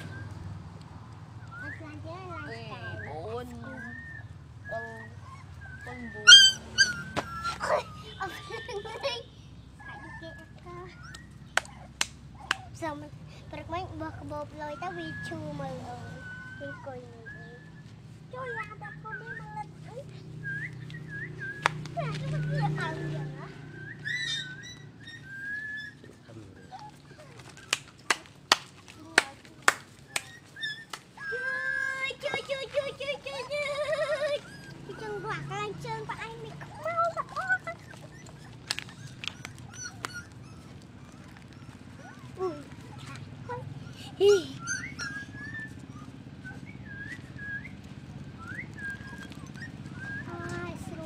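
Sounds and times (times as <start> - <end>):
puppy whimpering: 1.5 - 9.1, 9.8 - 12.8, 13.9 - 28.2, 30.0 - 51.0.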